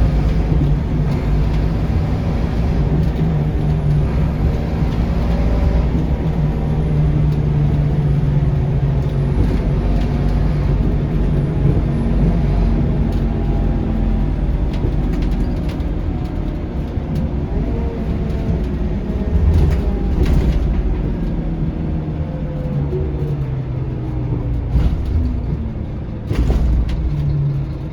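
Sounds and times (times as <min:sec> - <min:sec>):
bus diesel engine: 0:00.0 - 0:27.9
light rattles and knocks: 0:00.0 - 0:27.9
low road rumble: 0:00.0 - 0:27.9.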